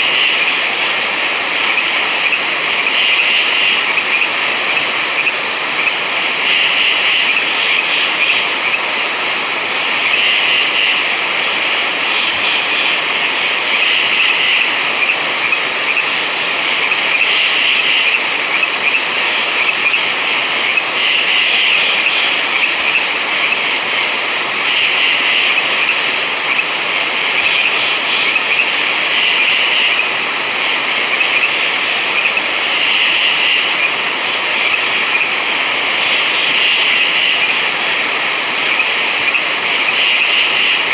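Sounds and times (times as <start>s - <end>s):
frogs chorus trilling: 0.0s - 9.2s, 9.8s - 40.9s.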